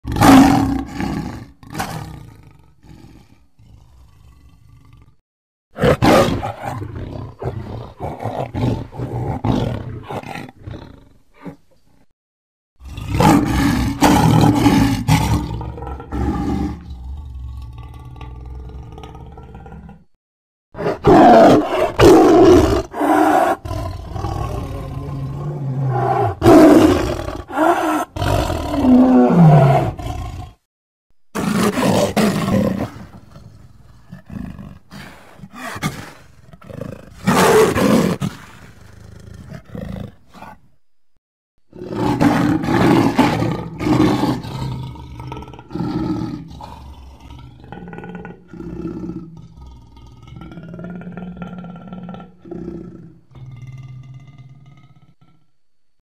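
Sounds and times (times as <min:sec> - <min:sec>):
big cat roars and snarls: 0:00.0 - 0:05.2, 0:05.8 - 0:12.1, 0:12.8 - 0:20.2, 0:20.8 - 0:30.7, 0:31.4 - 0:40.7, 0:41.7 - 0:55.6.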